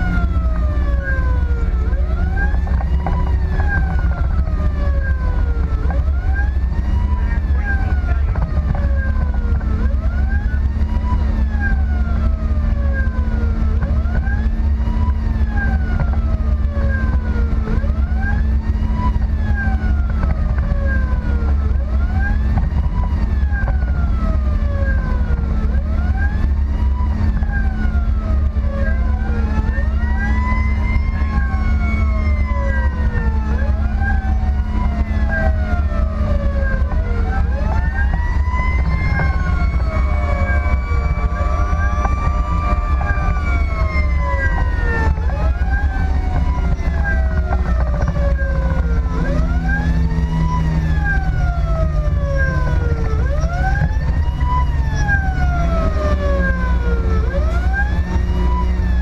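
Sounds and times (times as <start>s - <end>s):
engine and road rumble: 0.0s - 59.0s
second siren slower sweep: 0.0s - 59.0s
siren wailing: 0.0s - 59.0s.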